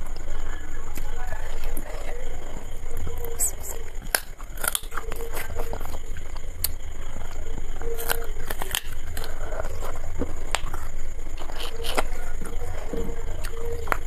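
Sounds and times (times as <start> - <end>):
steady low hum: 0.0 - 14.0
person chewing food: 0.9 - 14.0.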